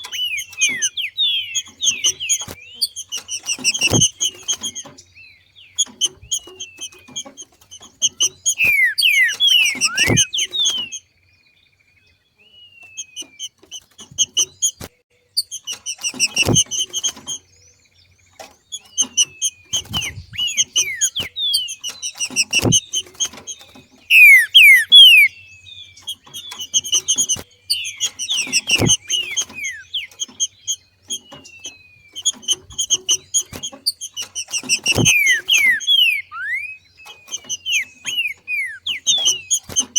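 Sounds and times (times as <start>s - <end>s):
bird chip notes and whistles: 0.0s - 11.1s, 12.6s - 17.7s, 18.7s - 39.9s.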